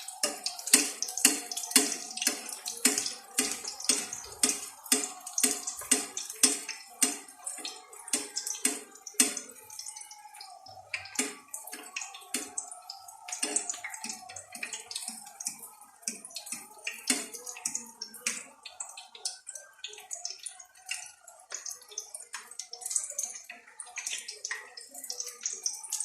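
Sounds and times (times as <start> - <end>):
water splashing and dripping: 0.0 - 26.0.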